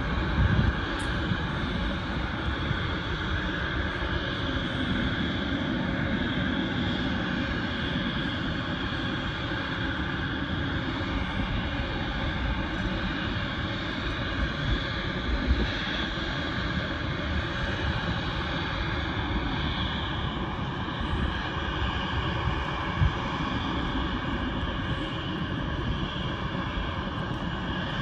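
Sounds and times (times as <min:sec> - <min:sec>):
distant jet engines roaring: 0:00.0 - 0:28.0.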